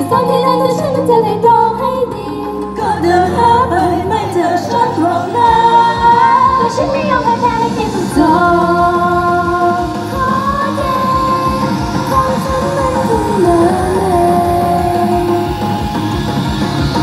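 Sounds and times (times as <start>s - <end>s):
women singing pop song: 0.0s - 16.1s.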